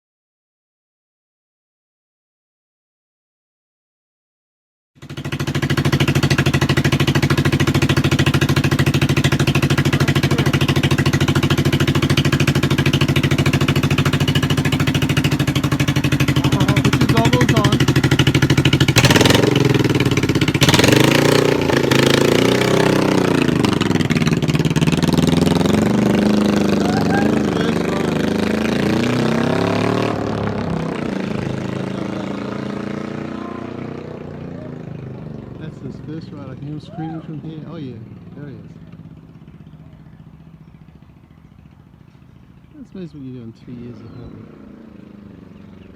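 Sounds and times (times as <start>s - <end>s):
motorcycle engine idling: 5.0s - 45.9s.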